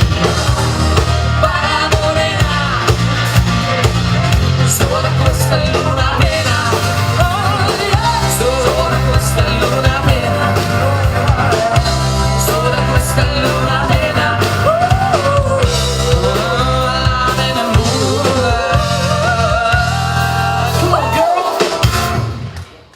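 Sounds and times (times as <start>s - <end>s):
bass: 0.0s - 22.9s
drums: 0.0s - 22.9s
rock band playing: 0.0s - 22.9s.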